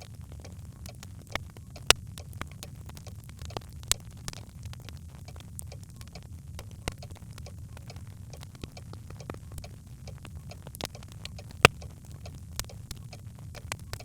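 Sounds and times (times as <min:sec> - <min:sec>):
fire crackling: 0:00.0 - 0:14.0
low rumble of flames: 0:00.0 - 0:14.0
sharp pops and ticks: 0:00.0 - 0:14.0.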